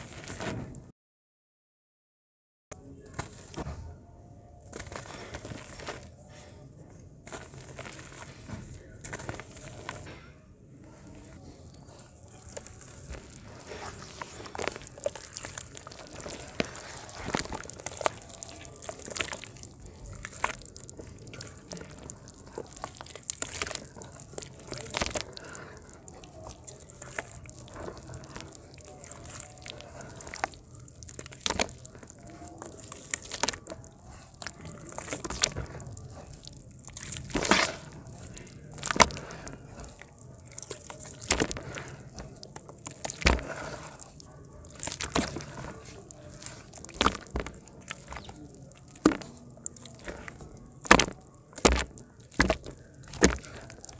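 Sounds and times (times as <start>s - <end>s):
mud lumps crackling: 4.7s - 6.5s, 7.2s - 10.1s, 11.0s - 53.9s
wet mud squelching and sloshing: 4.7s - 6.5s, 7.2s - 10.1s, 11.0s - 53.9s.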